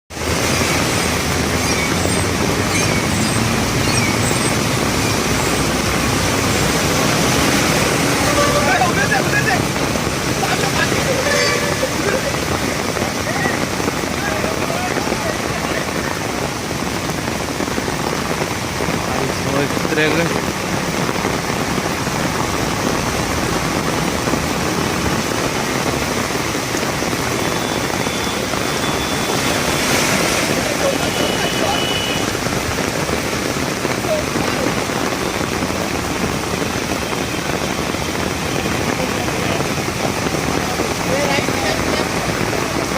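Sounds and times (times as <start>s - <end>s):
heavy rain: 0.1s - 42.9s
vehicle noise: 0.1s - 42.9s.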